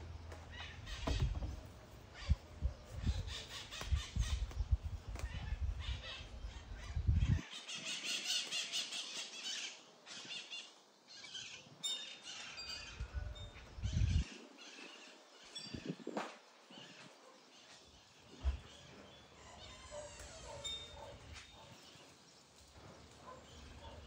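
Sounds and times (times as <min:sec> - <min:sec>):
birds chattering and squawking: 0:00.0 - 0:24.0.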